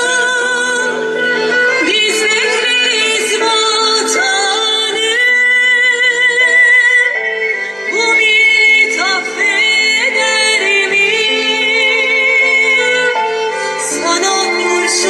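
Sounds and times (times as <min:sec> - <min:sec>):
music with sung melody: 0:00.0 - 0:15.0.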